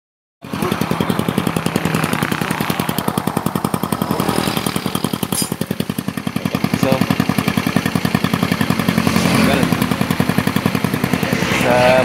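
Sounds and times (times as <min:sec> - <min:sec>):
motorcycle engine idling puffs: 0:00.4 - 0:11.6.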